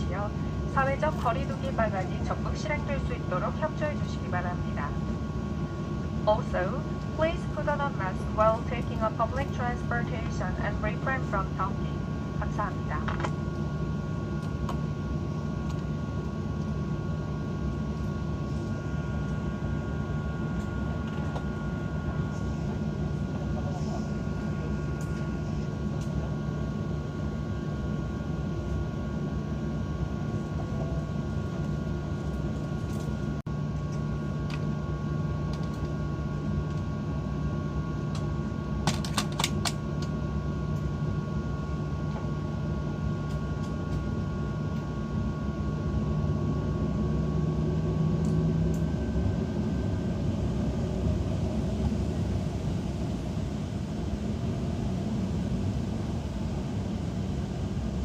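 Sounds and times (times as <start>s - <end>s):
aircraft cabin hum: 0.0s - 58.0s.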